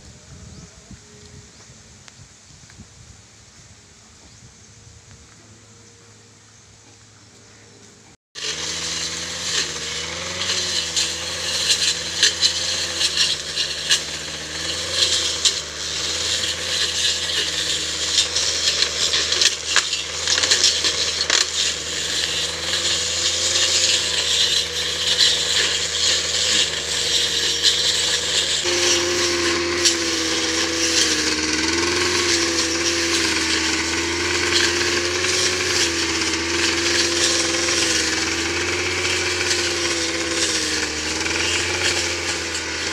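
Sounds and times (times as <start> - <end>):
brush cutter engine running: 7.4 - 42.9.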